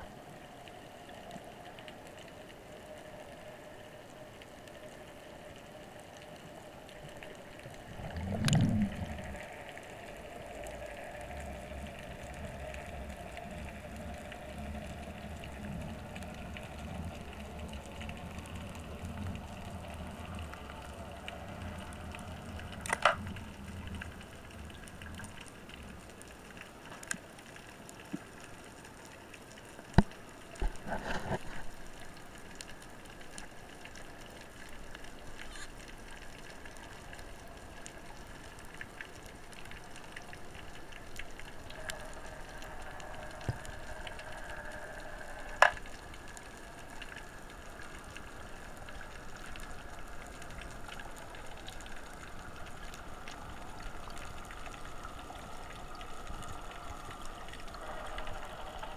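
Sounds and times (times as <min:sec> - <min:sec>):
faint steady hum: 0:00.0 - 0:58.9
underwater rumble of moving water: 0:00.0 - 0:58.9.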